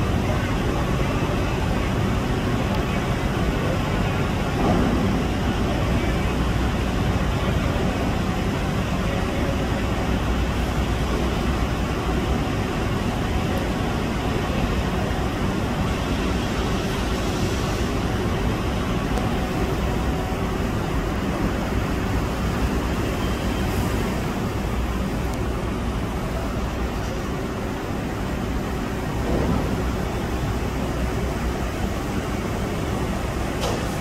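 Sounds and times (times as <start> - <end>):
low rumbling background noise: 0.0 - 34.0.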